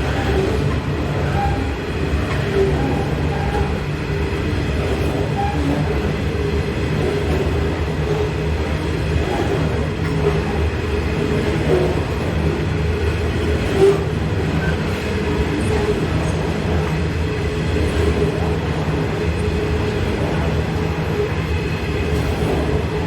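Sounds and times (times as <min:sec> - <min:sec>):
electric train rumble and hum: 0:00.0 - 0:23.0.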